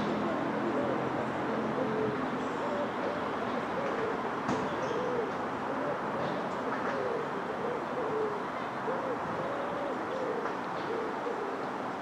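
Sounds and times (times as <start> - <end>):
bird cooing: 0.0 - 11.7.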